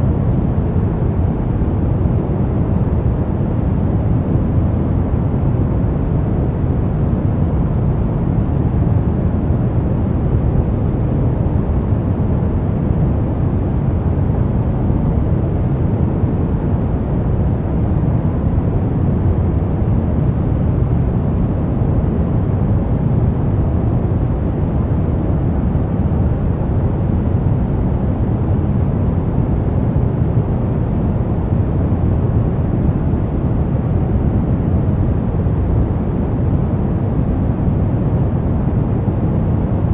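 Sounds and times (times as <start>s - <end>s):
deep brown noise rush: 0.0s - 39.9s.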